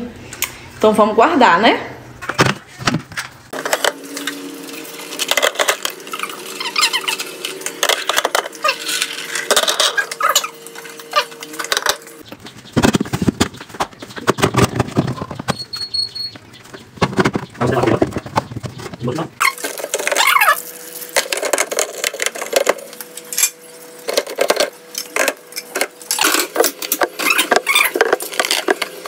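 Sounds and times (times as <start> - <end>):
refrigerator hum: 0.0 - 29.0.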